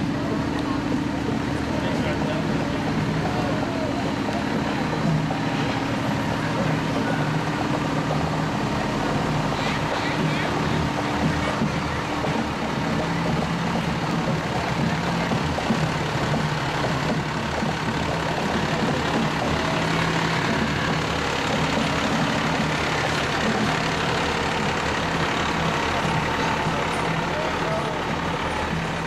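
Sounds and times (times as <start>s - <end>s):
fire engine diesel engine running: 0.0s - 29.0s.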